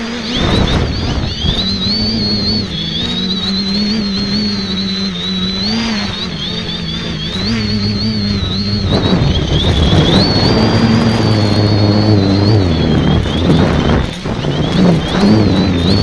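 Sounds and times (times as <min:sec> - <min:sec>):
wind noise rushing: 0:00.0 - 0:04.8, 0:05.5 - 0:16.0
drone propellers whining: 0:00.0 - 0:16.0.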